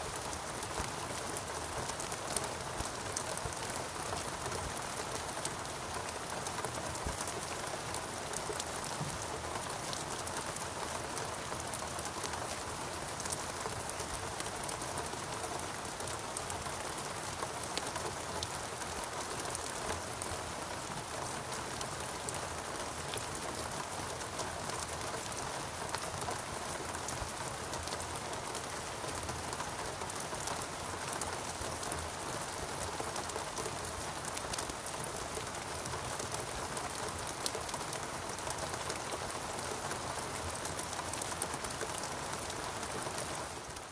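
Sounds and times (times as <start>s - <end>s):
rain falling on foliage: 0.0s - 43.9s.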